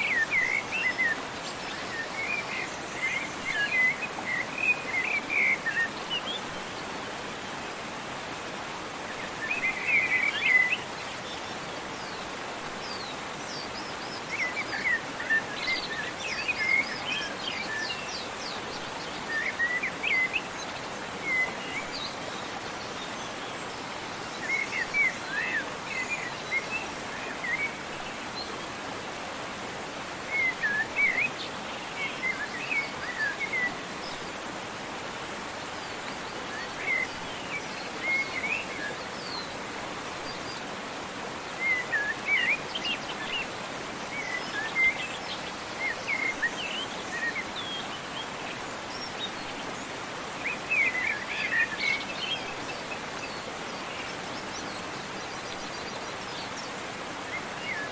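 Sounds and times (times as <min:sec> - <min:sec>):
rushing falling water: 0:00.0 - 0:57.9
songbirds chirping: 0:00.0 - 0:57.9.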